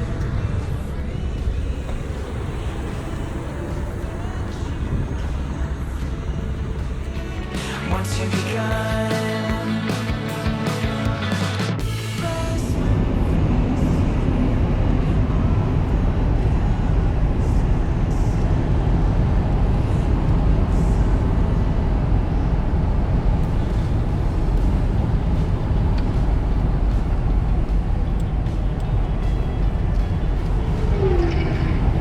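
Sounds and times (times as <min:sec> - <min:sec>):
vehicle engine and tyre rumble: 0:00.0 - 0:09.1, 0:11.8 - 0:32.0.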